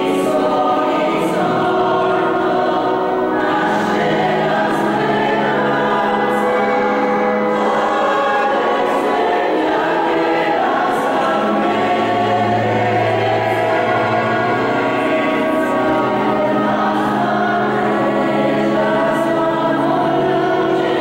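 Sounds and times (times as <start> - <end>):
church choir singing a hymn: 0.0 - 21.0.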